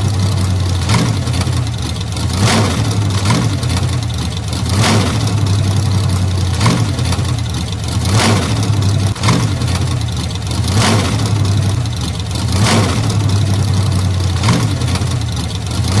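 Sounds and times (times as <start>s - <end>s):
old car engine running: 0.0s - 16.0s.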